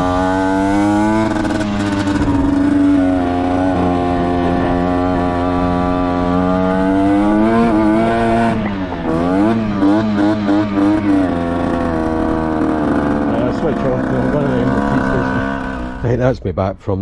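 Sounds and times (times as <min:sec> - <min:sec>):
motorcycle engine idling and revving: 0:00.0 - 0:16.4.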